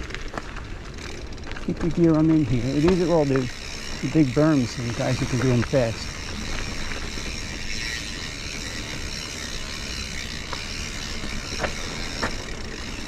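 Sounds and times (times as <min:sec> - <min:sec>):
bike clicking and rattling: 0:00.0 - 0:13.0.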